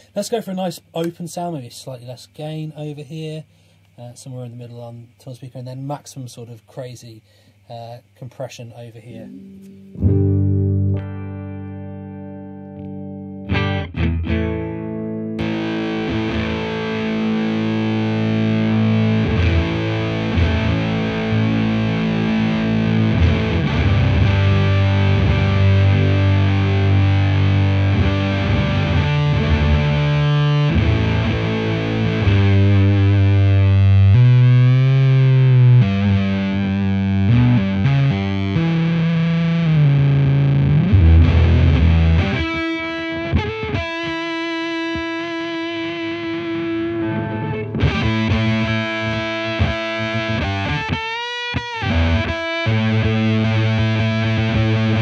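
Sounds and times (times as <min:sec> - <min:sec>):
distorted electric guitar: 0:09.0 - 0:55.0.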